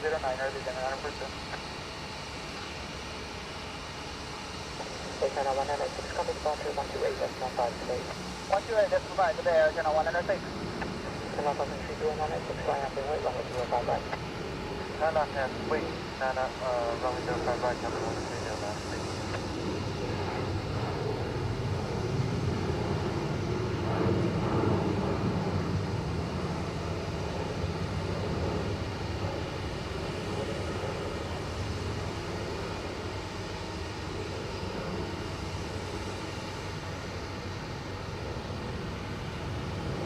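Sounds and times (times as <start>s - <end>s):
jet engines rumbling: 0.0s - 40.0s.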